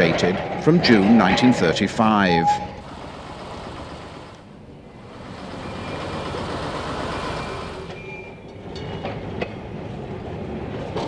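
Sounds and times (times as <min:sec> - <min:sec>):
tram rumbling past: 0:00.0 - 0:11.0.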